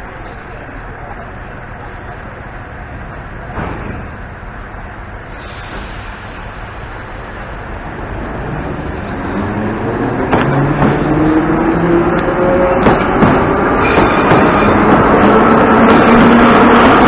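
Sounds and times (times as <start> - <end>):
metro train passing: 0.0 - 17.0.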